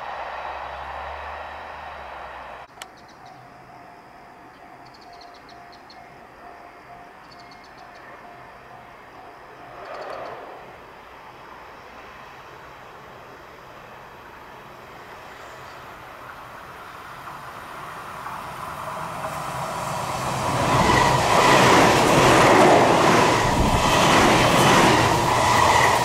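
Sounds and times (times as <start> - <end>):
distant train running: 0.0 - 26.0.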